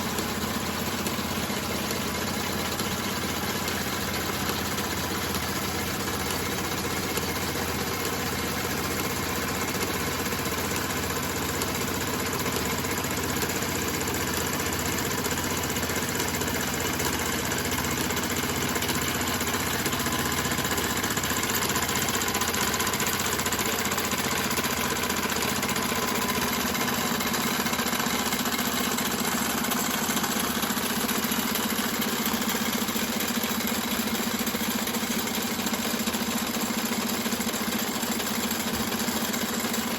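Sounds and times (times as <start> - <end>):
model steam engines running: 0.0 - 39.9.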